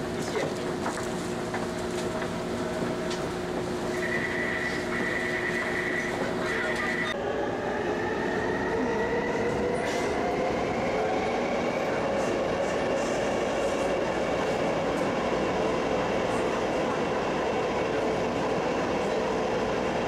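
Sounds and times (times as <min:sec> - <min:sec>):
train rolling noise: 0:00.0 - 0:20.0.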